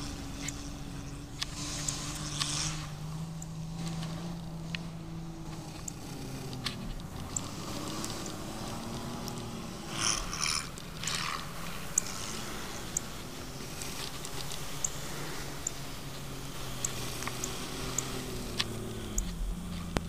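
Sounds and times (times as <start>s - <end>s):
distant engine pushing through snow: 0.0s - 20.0s
sharp ticks: 0.0s - 20.0s.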